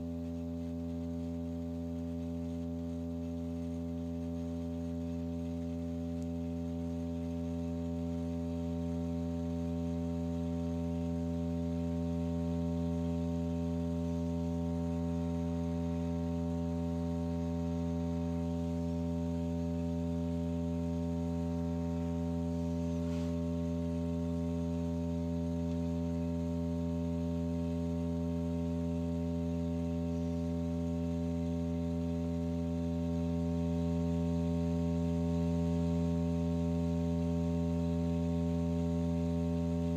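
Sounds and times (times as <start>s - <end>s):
steady low droning tone: 0.0s - 39.9s.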